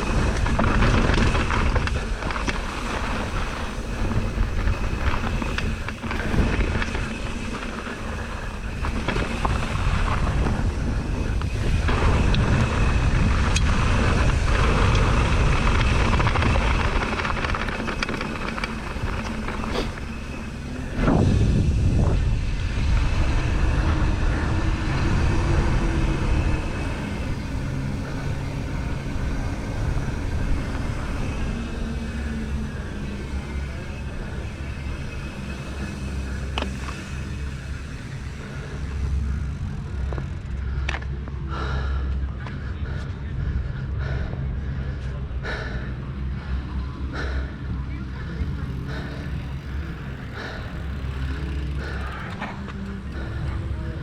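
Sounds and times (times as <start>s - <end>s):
mountain bike rattling on rough trail: 0.0s - 43.0s, 46.4s - 54.0s
wind rushing over microphone: 0.0s - 54.0s.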